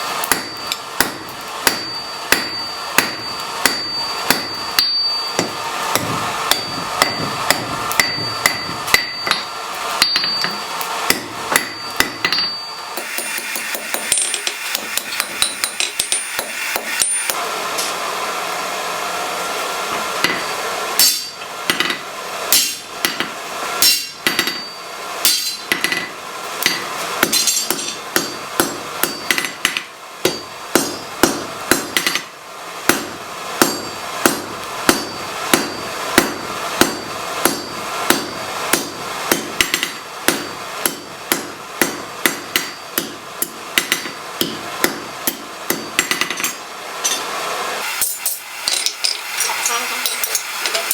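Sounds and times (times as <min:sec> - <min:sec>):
hammer forging hot metal: 0:00.0 - 0:18.6, 0:19.9 - 0:50.9
steady background noise: 0:00.0 - 0:50.9.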